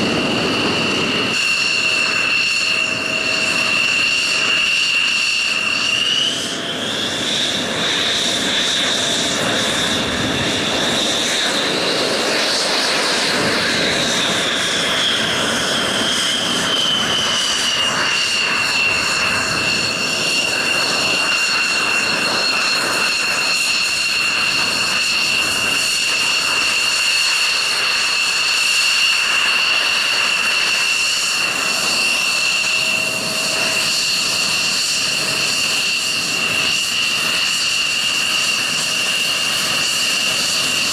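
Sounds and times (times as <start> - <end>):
jet engines roaring with whine: 0.0 - 40.9.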